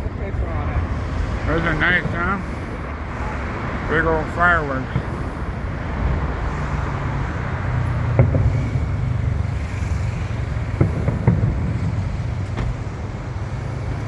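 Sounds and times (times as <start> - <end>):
distant fireworks bangs: 0.0 - 14.0
road traffic rumble: 0.0 - 14.0.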